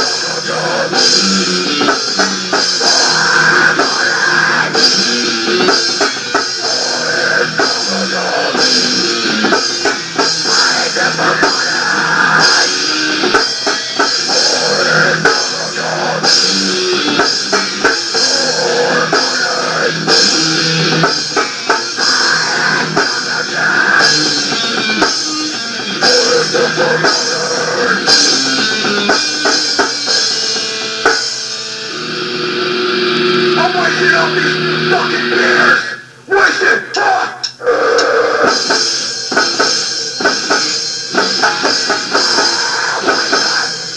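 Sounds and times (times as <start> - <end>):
drum kit with cymbal hits: 0.0 - 43.9
electric guitar: 0.0 - 43.9.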